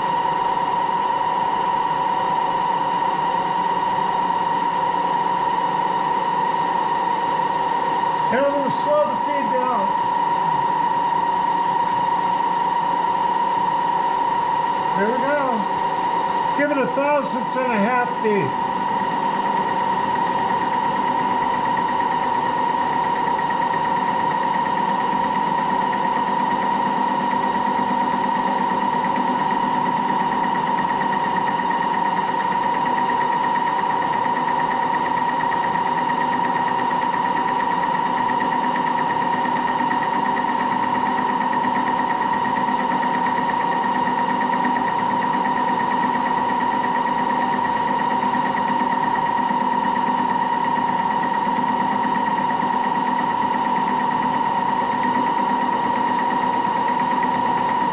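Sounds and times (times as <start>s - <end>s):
boring machine high whine: 0.0s - 57.9s.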